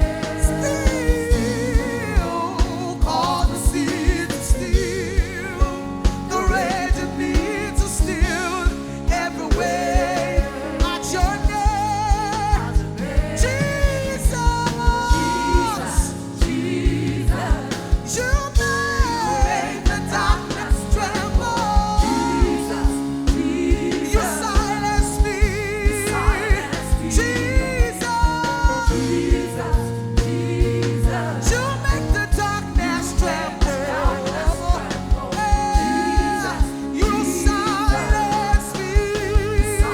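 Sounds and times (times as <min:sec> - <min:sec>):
steady drum beat: 0:00.0 - 0:39.9
vocals with wide vibrato: 0:00.0 - 0:39.9
worship band playing: 0:00.0 - 0:39.9.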